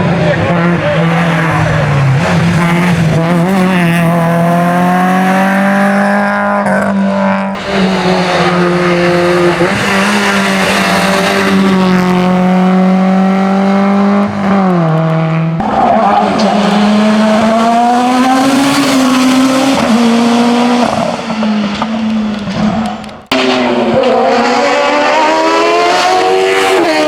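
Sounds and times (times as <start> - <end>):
race car engine accelerating: 0.0 - 27.0.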